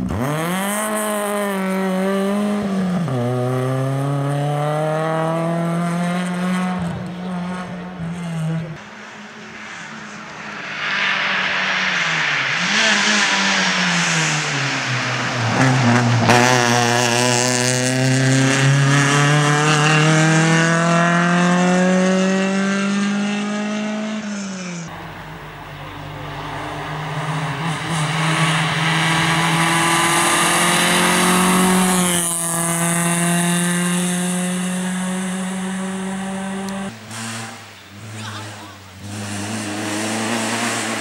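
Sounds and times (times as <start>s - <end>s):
rally car engine at full throttle: 0.0s - 41.0s.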